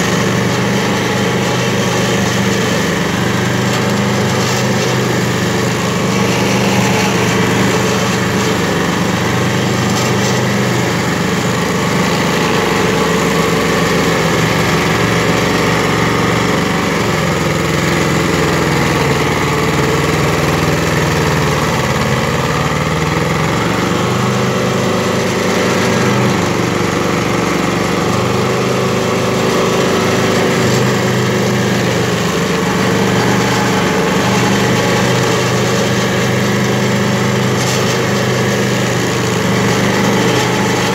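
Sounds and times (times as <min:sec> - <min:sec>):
cutter wheel chipping wood: 0:00.0 - 0:40.9
stump grinder engine under load: 0:00.0 - 0:40.9.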